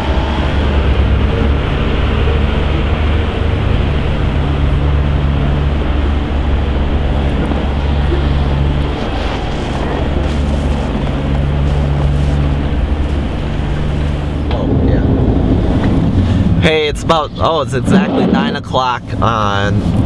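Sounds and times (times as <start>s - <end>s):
vehicle engine rumble: 0.0s - 20.0s
wind noise: 0.0s - 20.0s.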